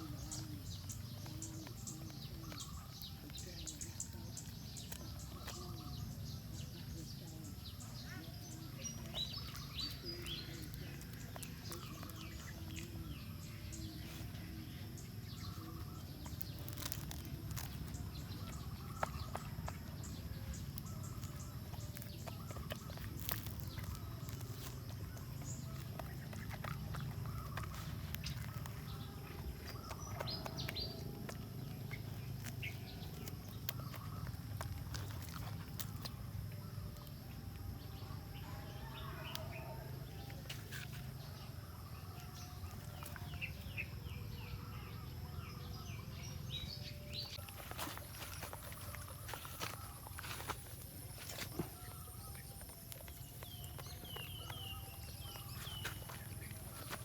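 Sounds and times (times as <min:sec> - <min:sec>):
low outdoor rumble: 0:00.0 - 0:57.0
small birds chirping: 0:00.0 - 0:57.0.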